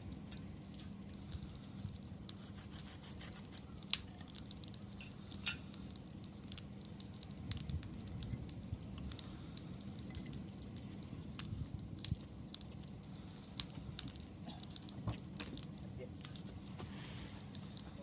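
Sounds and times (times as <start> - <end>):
bonfire crackling and popping: 0.0 - 18.0
low rumble of flames: 0.0 - 18.0.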